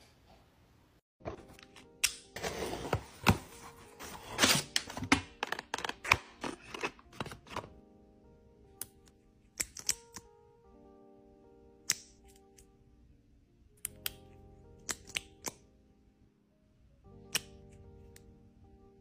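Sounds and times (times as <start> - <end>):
soft background music: 1.2 - 19.0.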